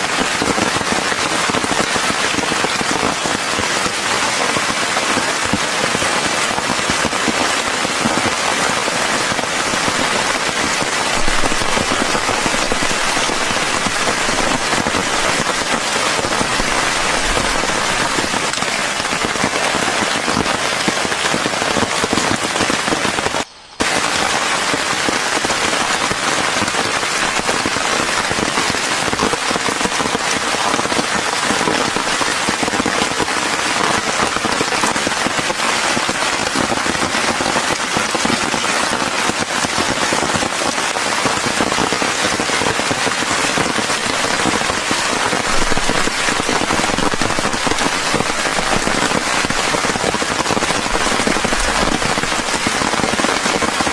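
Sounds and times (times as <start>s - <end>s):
heavy rain patter: 0.0s - 53.9s.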